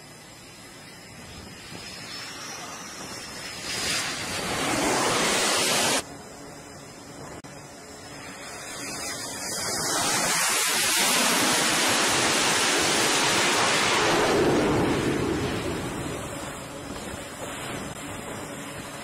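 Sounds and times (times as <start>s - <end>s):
jet fighter engine roar: 0.0s - 19.0s.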